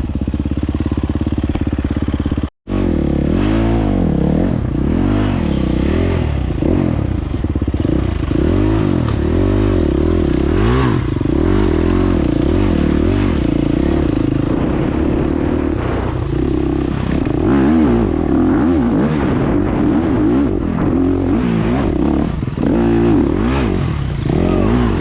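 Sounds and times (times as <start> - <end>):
dirt bike engine revving: 0.6 - 25.0.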